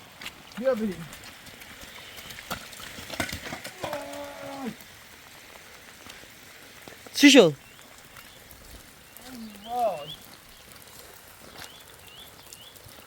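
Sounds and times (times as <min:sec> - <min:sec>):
faint rain: 0:00.0 - 0:13.0.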